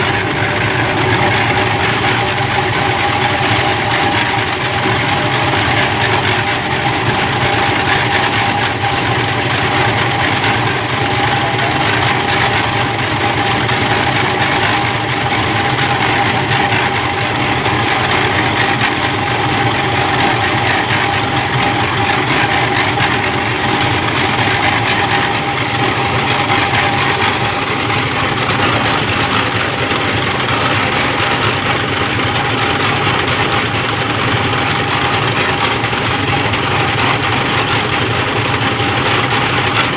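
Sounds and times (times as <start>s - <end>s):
constant whine: 0.0s - 39.9s
engine running loudly: 0.0s - 39.9s.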